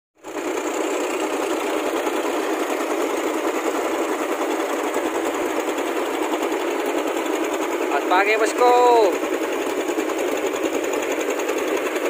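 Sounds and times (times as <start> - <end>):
outboard motor running: 0.2 - 12.0.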